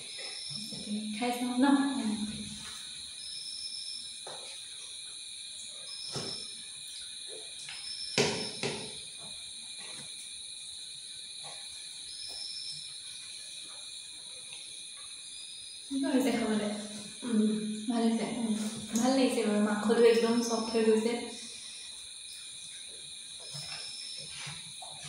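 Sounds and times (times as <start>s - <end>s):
high insect trill: 0.0s - 25.0s
short insect chirp: 0.0s - 25.0s.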